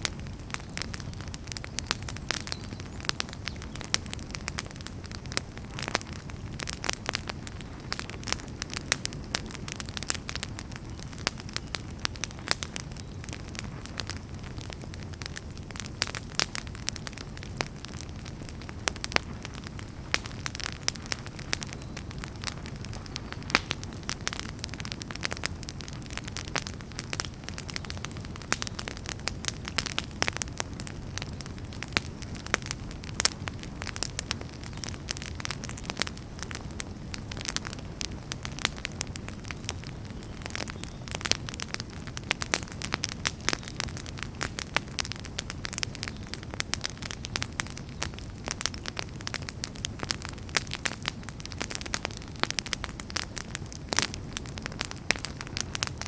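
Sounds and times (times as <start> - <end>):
campfire flames rumbling: 0.0 - 56.0
firewood crackling and popping: 0.0 - 56.0.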